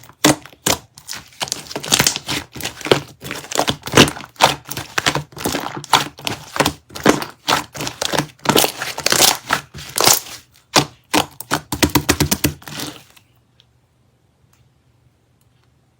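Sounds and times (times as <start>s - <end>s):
crackly crinkling handling noise: 0.0s - 13.7s.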